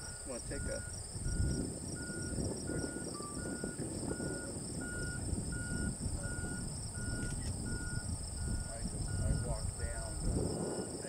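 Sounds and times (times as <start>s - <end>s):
short electronic beeps: 0.0s - 9.6s
insects chirping and trilling: 0.0s - 11.0s
low uneven rumble: 0.0s - 11.0s.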